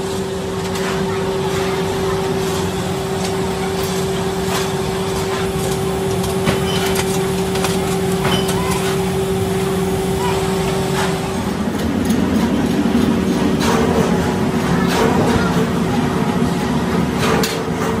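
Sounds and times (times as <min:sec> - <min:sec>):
workshop machinery humming: 0:00.0 - 0:18.0.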